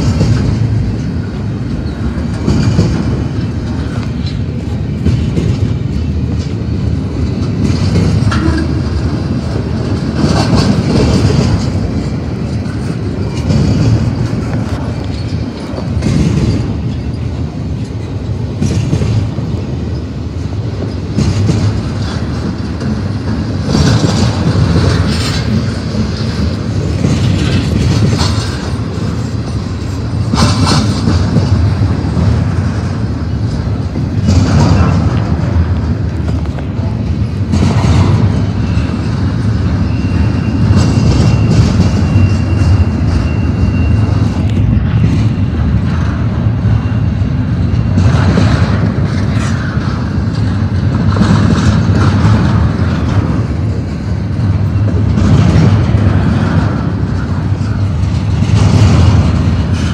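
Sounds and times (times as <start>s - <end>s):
train trucks clattering: 0.0s - 59.9s
train wheels rumbling on rail: 0.0s - 59.9s.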